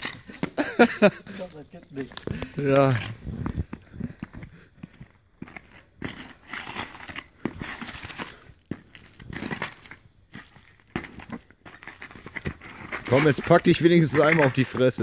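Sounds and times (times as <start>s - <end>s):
skate blades scraping on ice: 0.0s - 3.2s, 4.9s - 15.0s.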